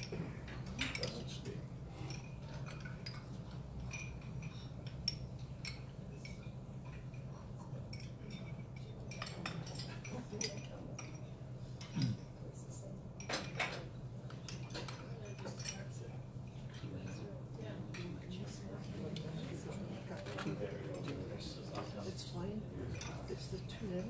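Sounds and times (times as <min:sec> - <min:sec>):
cutlery and dishes clinking: 0:00.0 - 0:12.6, 0:13.2 - 0:24.0
steady low hum: 0:00.0 - 0:24.0.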